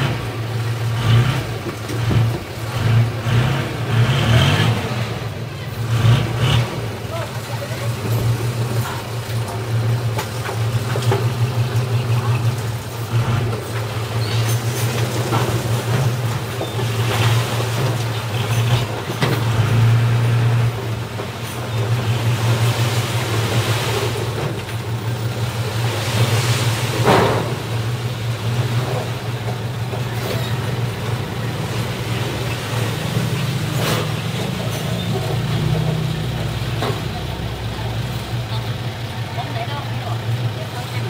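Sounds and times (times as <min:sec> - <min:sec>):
dump truck diesel engine running: 0:00.0 - 0:41.0.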